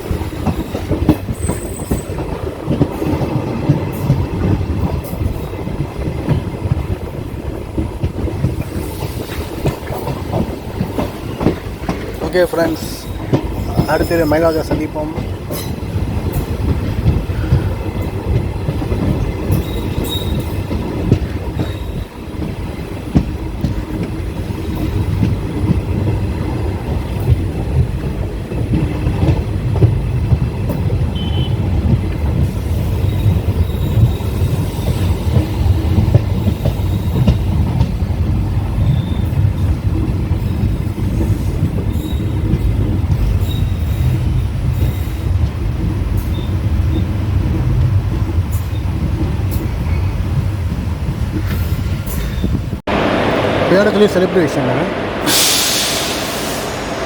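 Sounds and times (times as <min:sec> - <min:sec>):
train knocks: 0:00.0 - 0:57.0
train wheels rumbling on track: 0:00.0 - 0:57.0.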